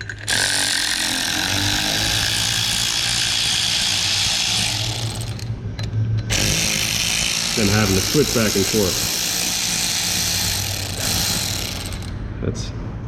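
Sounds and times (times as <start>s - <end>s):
power tool running: 0.0s - 5.6s, 6.2s - 12.2s.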